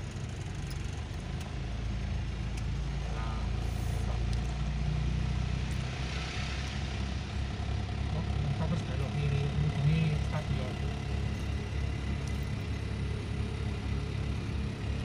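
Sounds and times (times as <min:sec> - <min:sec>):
car engine and tyre hum: 0:00.0 - 0:15.0.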